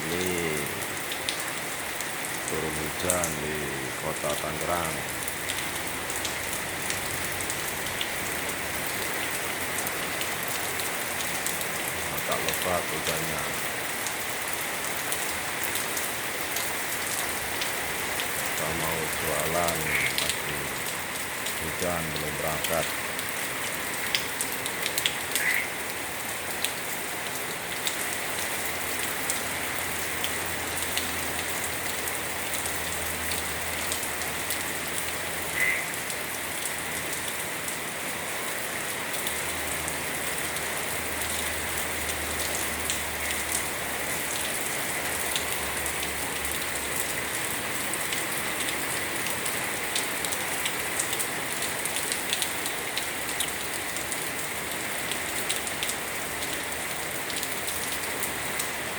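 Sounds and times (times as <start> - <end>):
heavy rain falling: 0.0 - 58.9
raindrops tapping: 0.0 - 58.9.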